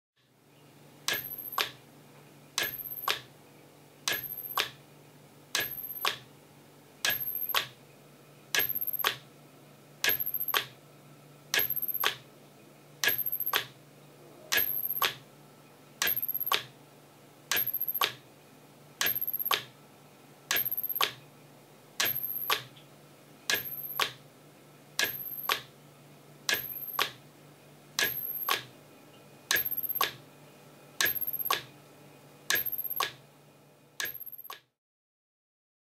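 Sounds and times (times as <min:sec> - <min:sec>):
steady low hum: 0:00.3 - 0:34.5.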